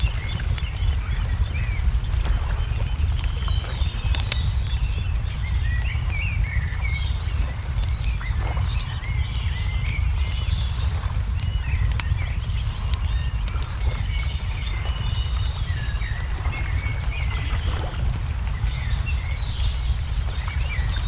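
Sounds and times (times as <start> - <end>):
low rumble: 0.0 - 21.0
songbirds chirping: 0.0 - 21.0
wood fire crackling: 0.0 - 21.0.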